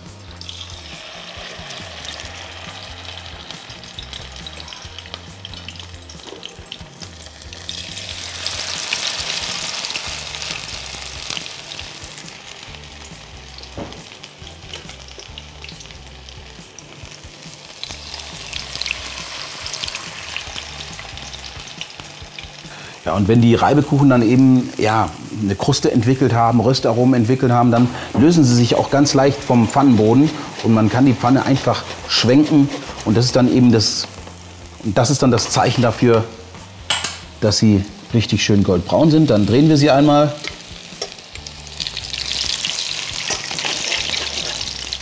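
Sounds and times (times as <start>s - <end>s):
batter sizzling in hot oil: 0.0s - 45.0s.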